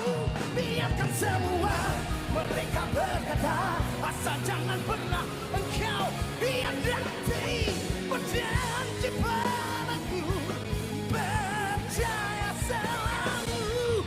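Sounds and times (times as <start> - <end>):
pop-rock song with male vocal: 0.0 - 14.0.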